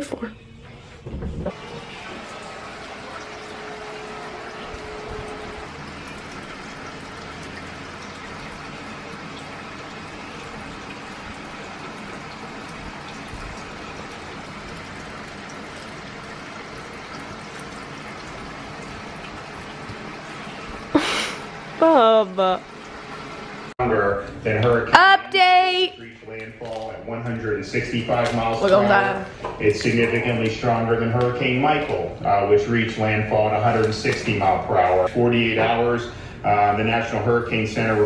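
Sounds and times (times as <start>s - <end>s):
electric fan running: 0.0s - 38.0s.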